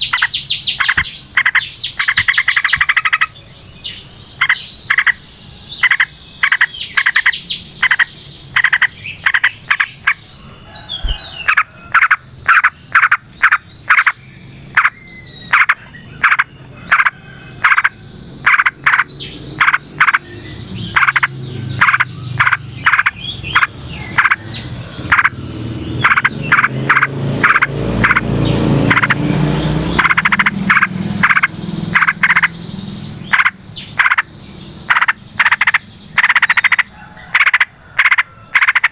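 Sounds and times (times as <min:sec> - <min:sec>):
frogs calling in sharp notes: 0:00.0 - 0:03.4, 0:04.2 - 0:10.4, 0:11.0 - 0:38.9
bulbul song: 0:00.0 - 0:38.9.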